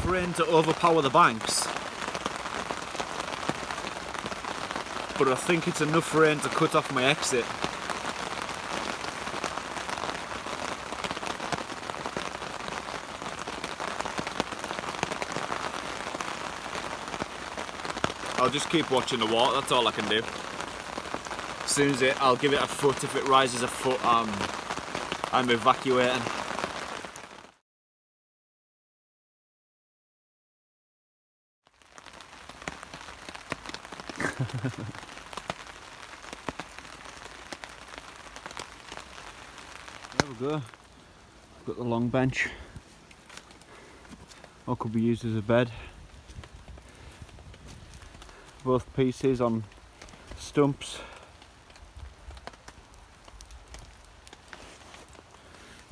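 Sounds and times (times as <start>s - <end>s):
rain hissing on a tarp: 0.0s - 27.6s, 31.6s - 55.9s
raindrops tapping on a tarp: 0.0s - 27.6s, 31.7s - 55.9s.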